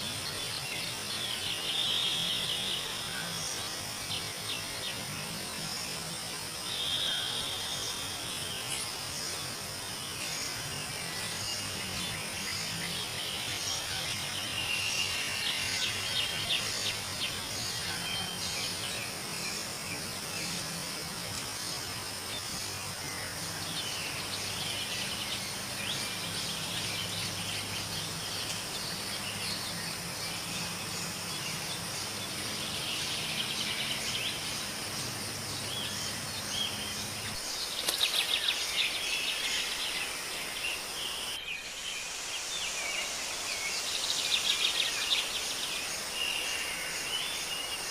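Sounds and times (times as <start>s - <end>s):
high insect drone: 0.0s - 47.9s
small birds chirping: 0.0s - 47.9s.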